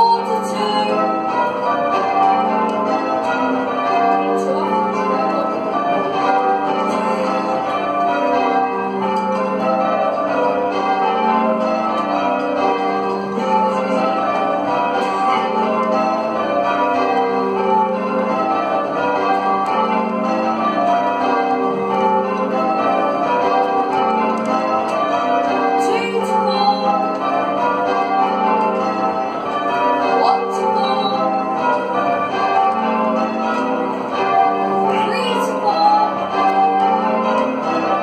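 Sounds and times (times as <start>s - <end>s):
church bells change ringing: 0.0s - 38.0s.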